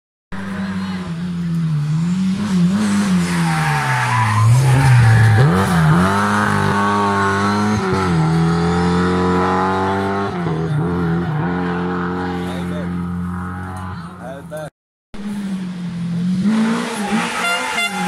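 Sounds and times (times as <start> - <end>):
rally car engine revving: 0.3 - 14.4, 15.2 - 18.0.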